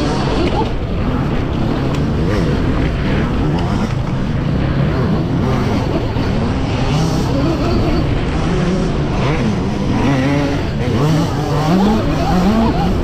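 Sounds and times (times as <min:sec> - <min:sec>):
riding noise: 0:00.0 - 0:13.0.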